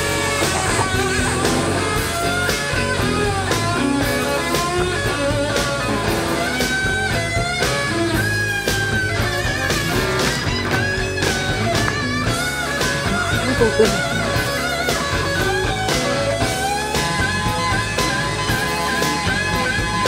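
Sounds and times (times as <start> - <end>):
guitar melody: 0.0 - 20.0
rock music: 0.0 - 20.0
steady drum beat: 0.0 - 20.0.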